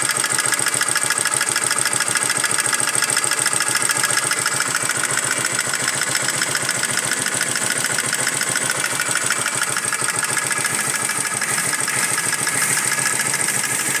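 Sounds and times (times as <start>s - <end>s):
engine ticking knock: 0.0s - 14.0s
motorcycle engine idling: 0.0s - 14.0s.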